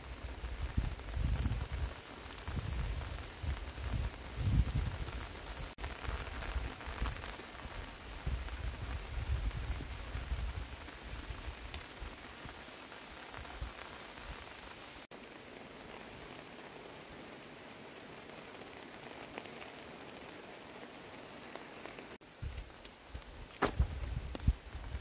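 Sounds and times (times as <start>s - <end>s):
rain on wet pavement: 0.0s - 25.0s.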